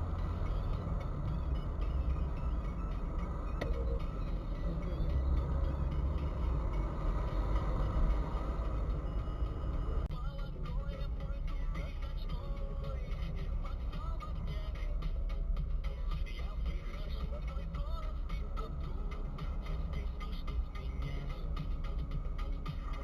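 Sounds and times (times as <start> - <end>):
vehicle rumbling: 0.0 - 23.0.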